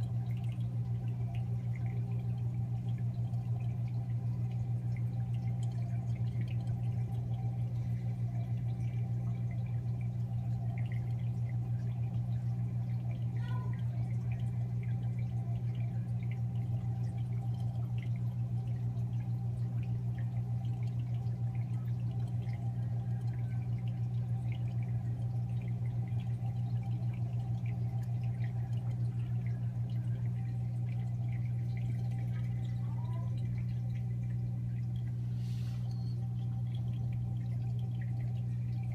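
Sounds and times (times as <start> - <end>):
aquarium pump humming: 0.0 - 38.9
water trickling and dripping: 0.0 - 38.9.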